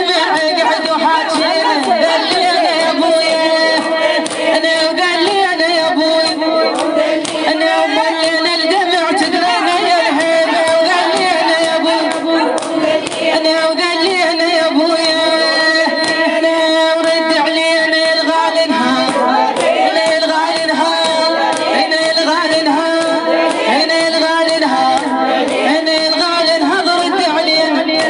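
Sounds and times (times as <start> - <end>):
person singing wordless lament: 0.0 - 28.0.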